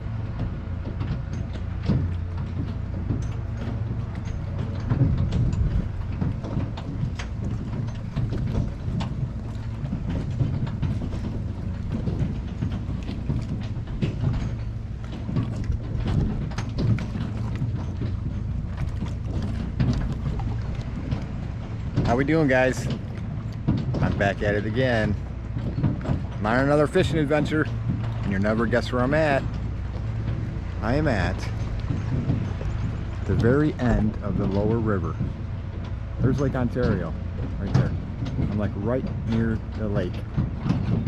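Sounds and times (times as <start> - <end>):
wind buffeting microphone: 0.0 - 41.0
light clicks and knocks: 0.1 - 41.0.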